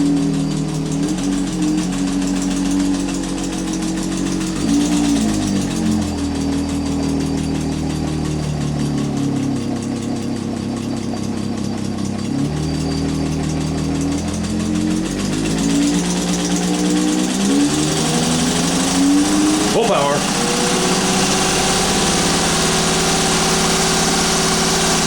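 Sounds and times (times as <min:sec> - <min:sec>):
sewing machine motor running: 0:00.0 - 0:25.0.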